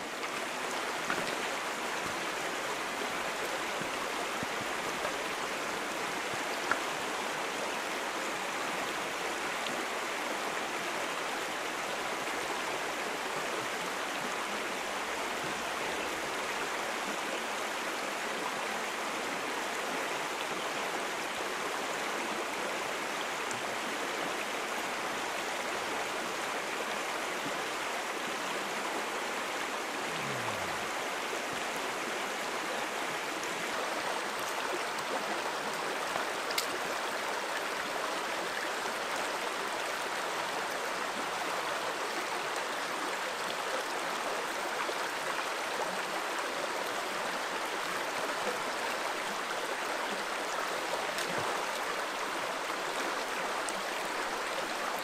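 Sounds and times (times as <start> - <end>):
stream water rushing and burbling: 0.0 - 55.0.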